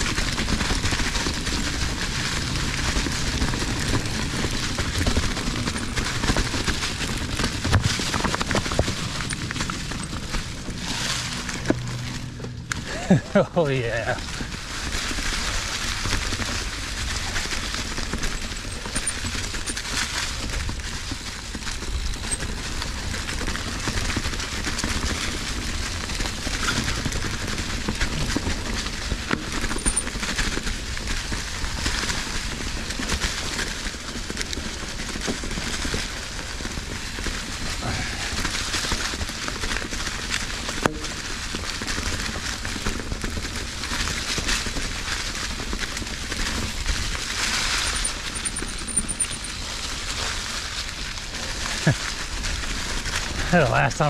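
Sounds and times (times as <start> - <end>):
bike rattling over rocks: 0.0 - 54.0.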